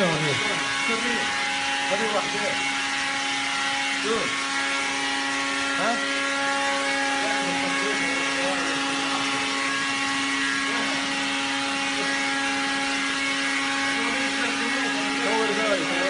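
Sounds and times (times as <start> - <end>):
motor humming with hiss: 0.0 - 16.0.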